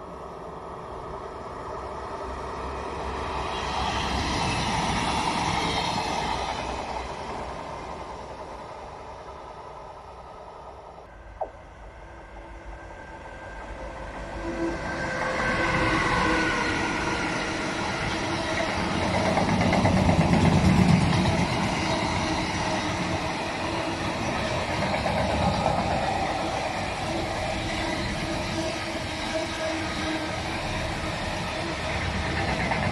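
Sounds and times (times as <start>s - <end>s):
freight train wheels rumbling on rails: 0.0s - 32.9s
train whine: 0.0s - 32.9s.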